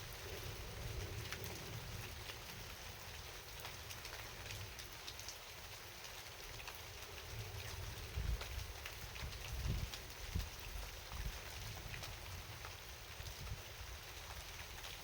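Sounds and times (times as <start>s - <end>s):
rain drops hitting: 0.0s - 15.0s.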